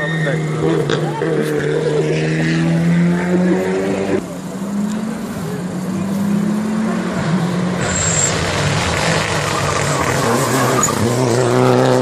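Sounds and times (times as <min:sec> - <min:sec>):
rally car engine passing at speed: 0:00.1 - 0:12.0.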